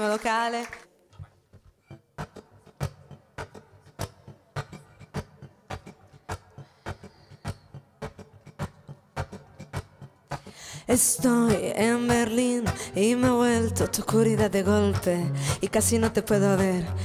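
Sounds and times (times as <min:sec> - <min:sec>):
acoustic guitar strumming: 0:01.8 - 0:17.0.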